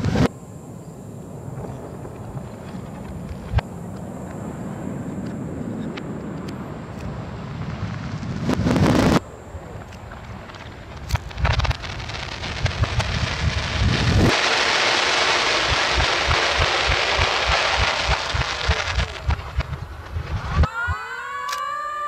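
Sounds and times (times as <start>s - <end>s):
reversed fireworks bangs: 0.0s - 0.3s, 1.4s - 21.2s
dense crackling hiss: 0.0s - 22.0s.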